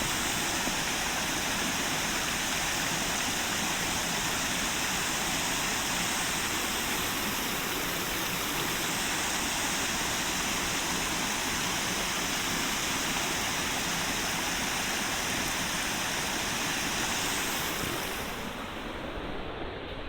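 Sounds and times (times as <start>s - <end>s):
waterfall roaring: 0.0s - 19.4s.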